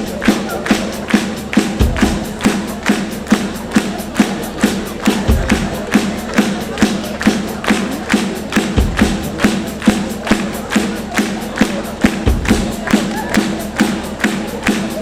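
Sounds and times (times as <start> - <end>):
fast drum beat: 0.0 - 15.0
live band music: 0.0 - 15.0.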